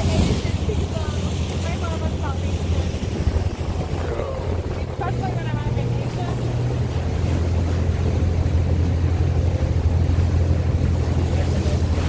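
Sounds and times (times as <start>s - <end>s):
motorboat engine drone: 0.0s - 12.0s
water rushing past hull: 0.0s - 12.0s
wind buffeting microphone: 0.0s - 12.0s.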